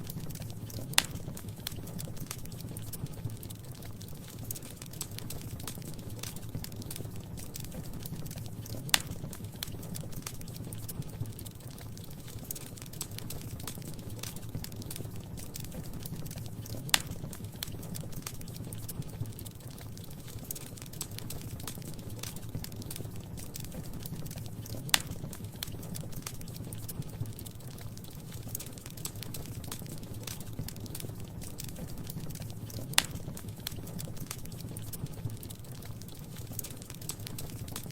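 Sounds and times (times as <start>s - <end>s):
fire crackling: 0.0s - 37.9s
flames rumbling: 0.0s - 37.9s.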